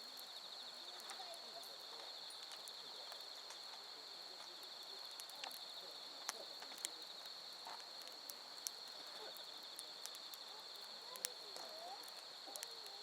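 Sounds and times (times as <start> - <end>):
firewood crackling and popping: 0.0 - 13.0
insects trilling: 0.0 - 13.0.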